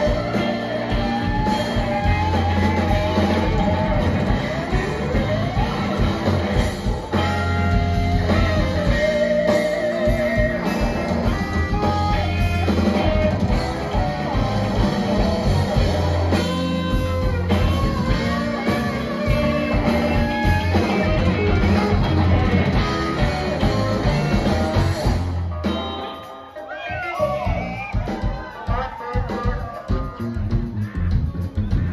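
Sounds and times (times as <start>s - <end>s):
bass guitar: 0.0s - 31.9s
drum kit: 0.0s - 31.9s
electric guitars: 0.0s - 31.9s.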